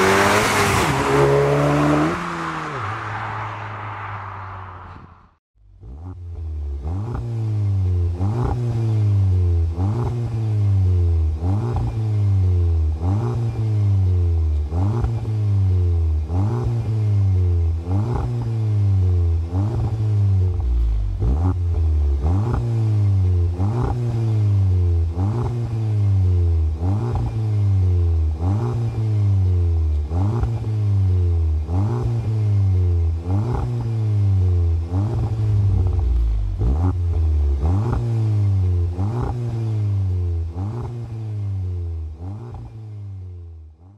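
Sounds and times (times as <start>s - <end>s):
car engine revving: 0.0s - 43.2s.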